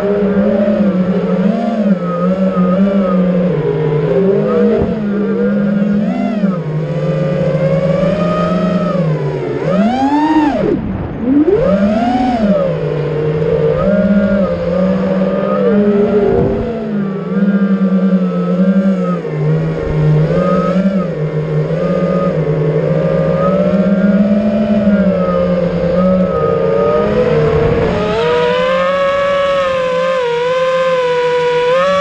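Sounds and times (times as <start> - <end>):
quadcopter propellers buzzing: 0.0 - 32.0.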